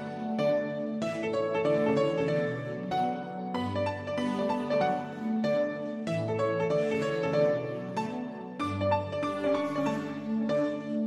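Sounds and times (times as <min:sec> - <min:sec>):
gentle instrumental melody: 0:00.0 - 0:11.0.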